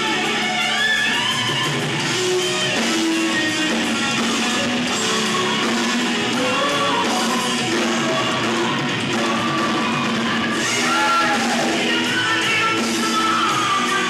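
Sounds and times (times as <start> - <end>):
electric guitar: 0.0 - 14.0
live rock band playing: 0.0 - 14.0.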